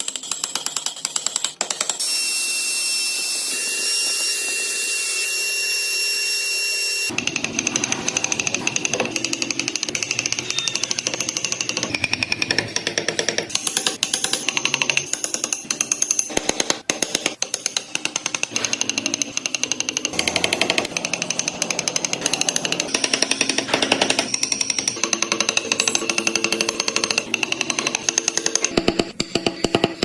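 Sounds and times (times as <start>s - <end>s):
power tool hammering wood: 3.1s - 30.0s.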